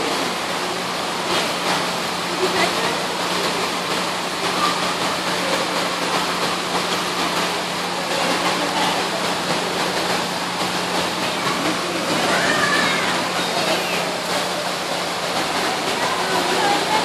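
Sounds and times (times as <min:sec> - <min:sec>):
circulating water rushing: 0:00.0 - 0:17.0.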